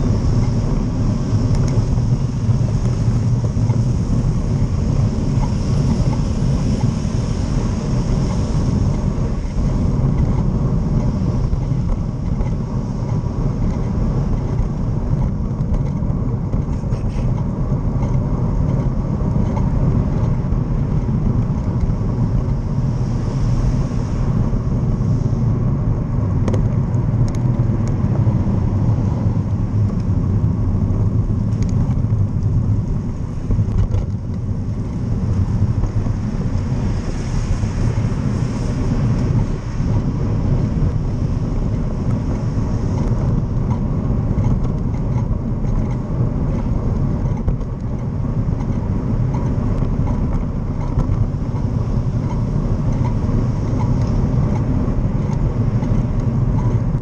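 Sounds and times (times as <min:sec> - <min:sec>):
bus and car passing: 0:00.0 - 0:57.0
wind and road noise: 0:00.0 - 0:57.0.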